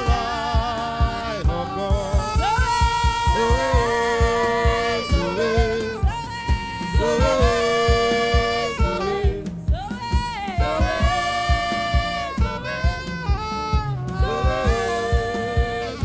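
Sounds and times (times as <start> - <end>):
congregation singing: 0.0 - 13.4, 14.0 - 16.0
band with steady drum beat: 0.0 - 16.0
singers on microphones: 0.0 - 16.0.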